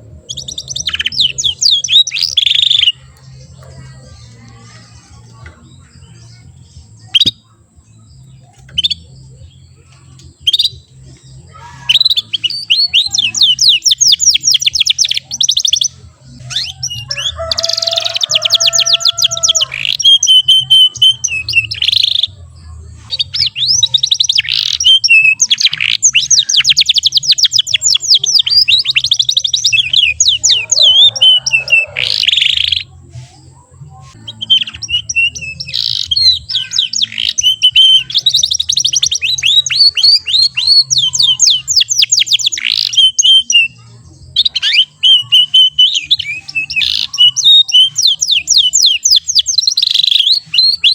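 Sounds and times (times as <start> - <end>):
canary chirping and trilling: 0.0 - 50.9.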